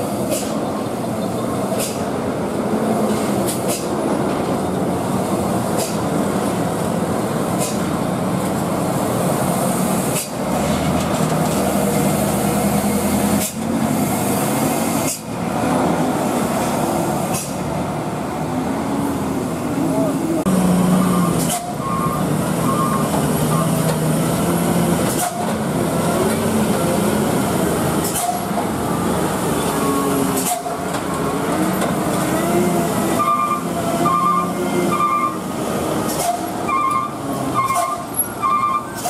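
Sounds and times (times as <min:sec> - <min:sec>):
truck diesel engines rumbling: 0:00.0 - 0:39.0.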